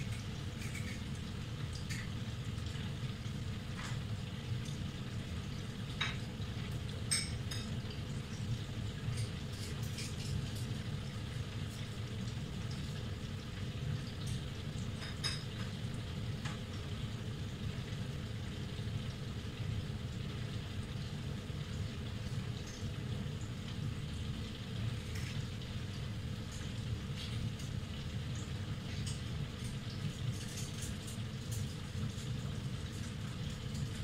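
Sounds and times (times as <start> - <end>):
meatballs sizzling in oil: 0.0 - 34.0.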